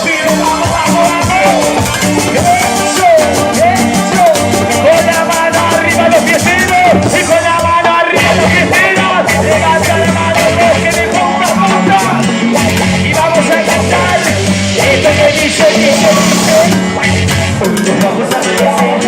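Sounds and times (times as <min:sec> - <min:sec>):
live band playing: 0:00.0 - 0:19.0
low bass notes: 0:00.0 - 0:19.0
person singing: 0:00.0 - 0:19.0
steady drum beat: 0:00.0 - 0:19.0.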